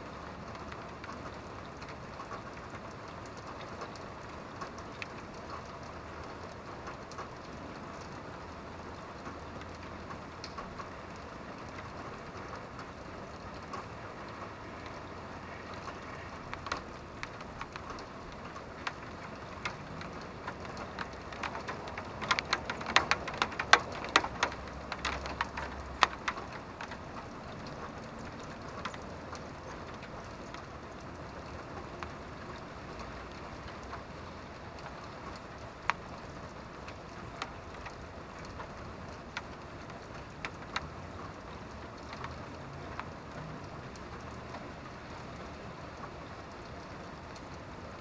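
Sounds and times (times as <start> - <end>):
raindrops striking a surface: 0.0 - 48.0
steady rain: 0.0 - 48.0.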